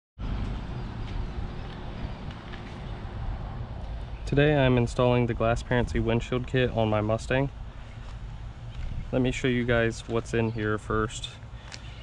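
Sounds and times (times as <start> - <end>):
steady low rumble: 0.2 - 12.0.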